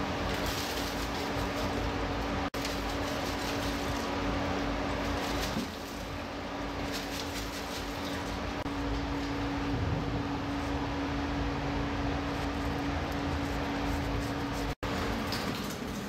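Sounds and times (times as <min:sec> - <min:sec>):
mechanical hum with rushing noise: 0:00.0 - 0:16.0.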